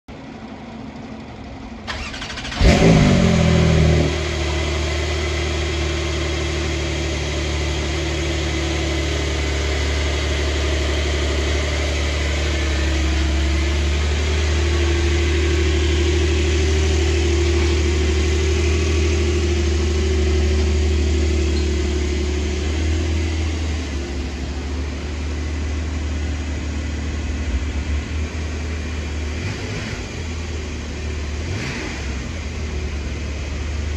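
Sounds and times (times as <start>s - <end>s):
car engine starting and idling: 0.1s - 33.9s.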